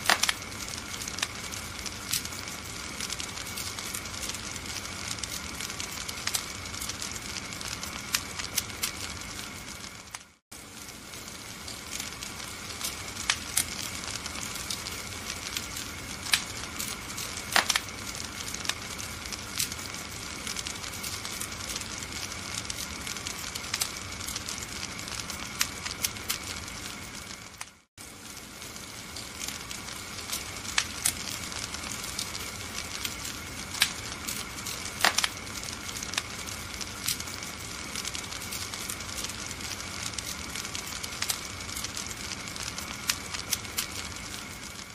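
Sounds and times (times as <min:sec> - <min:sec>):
fire popping: 0:00.0 - 0:44.9
wood fire crackling: 0:00.0 - 0:44.9.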